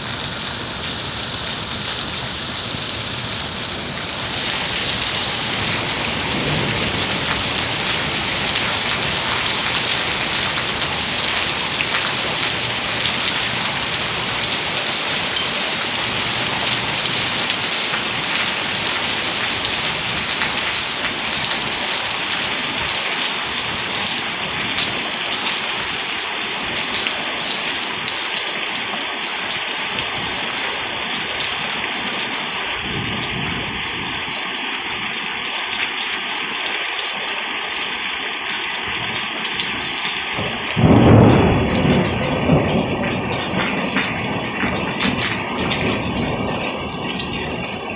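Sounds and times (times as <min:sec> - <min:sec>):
hailstones ticking: 0:00.0 - 0:47.9
heavy rain hiss: 0:00.0 - 0:47.9.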